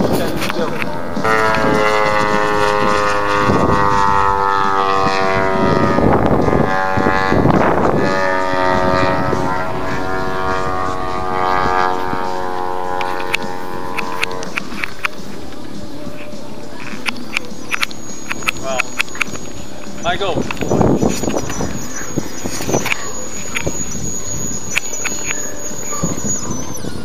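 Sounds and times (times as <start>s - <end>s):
model airplane engine whine: 0.0s - 27.0s
wind noise on microphone: 0.0s - 27.0s.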